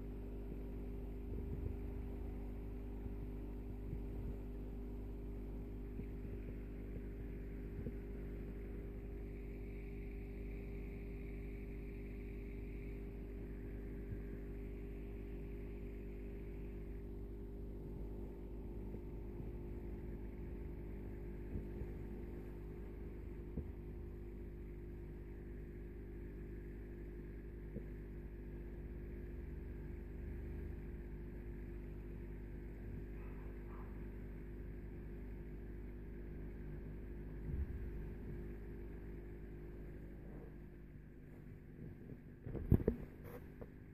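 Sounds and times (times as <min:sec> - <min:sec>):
aquarium pump humming: 0:00.0 - 0:43.9.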